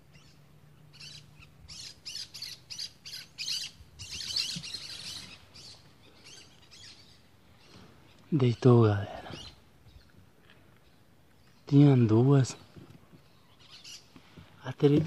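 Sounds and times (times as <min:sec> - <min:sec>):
small bird chirping: 0:00.0 - 0:10.2, 0:10.8 - 0:15.0.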